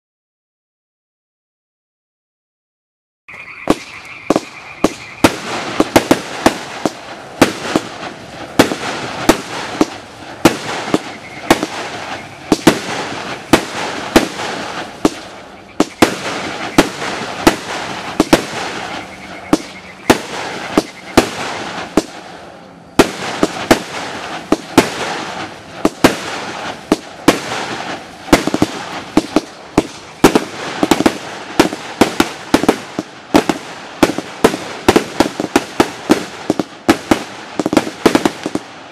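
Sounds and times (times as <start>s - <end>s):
firework aerial bursts: 3.6s - 38.9s
firework crackle: 3.6s - 38.9s.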